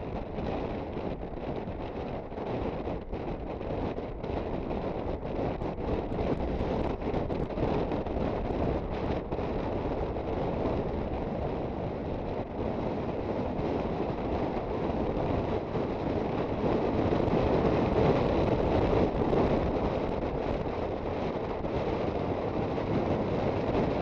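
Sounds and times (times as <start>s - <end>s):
scooter riding noise: 0.0s - 24.0s
wind rushing over microphone: 0.0s - 24.0s.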